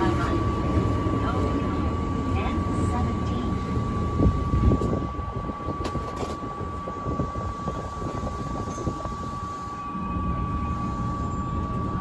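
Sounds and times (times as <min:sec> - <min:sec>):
rumble of wheels on rail: 0:00.0 - 0:12.0
thin steady high tone: 0:00.0 - 0:12.0.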